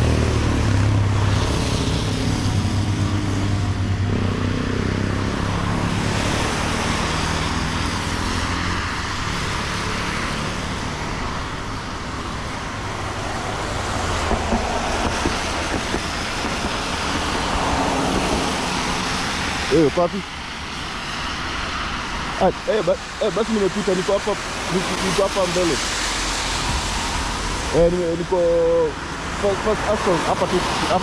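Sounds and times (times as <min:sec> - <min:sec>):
steady traffic hiss: 0:00.0 - 0:31.0
vehicle engine humming: 0:00.0 - 0:31.0.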